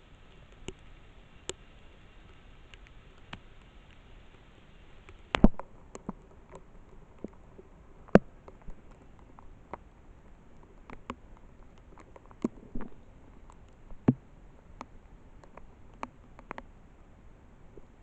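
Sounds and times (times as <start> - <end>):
faint hiss: 0.0 - 18.0.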